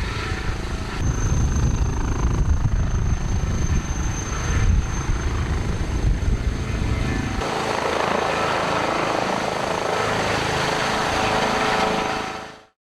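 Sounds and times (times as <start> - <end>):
turbine rush: 0.0 - 12.4
helicopter rotor rumble: 0.0 - 12.8.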